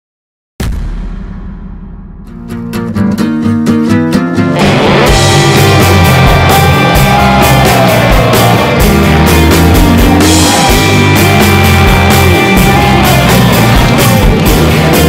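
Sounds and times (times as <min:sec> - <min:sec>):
drum beat: 0:00.6 - 0:03.5, 0:04.5 - 0:15.0
electric guitar bending notes: 0:02.3 - 0:15.0.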